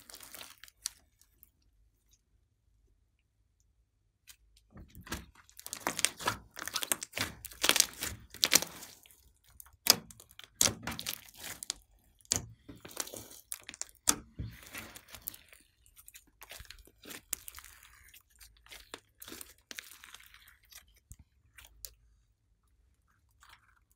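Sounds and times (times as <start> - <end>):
slime kneaded and stretched: 0.0 - 2.4, 4.1 - 23.9.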